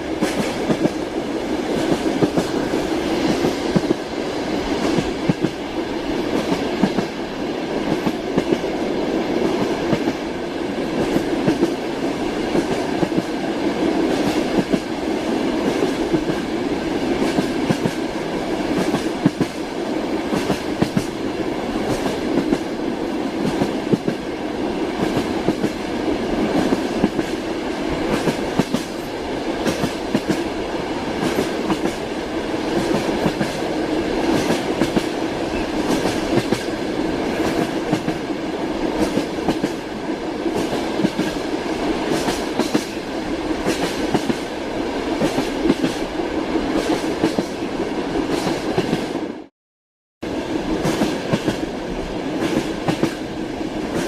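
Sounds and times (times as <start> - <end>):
train wheels clattering on rails: 0.0 - 21.2, 21.8 - 24.3, 24.9 - 30.6, 31.2 - 46.1, 46.7 - 47.6, 50.7 - 51.7, 52.4 - 54.0.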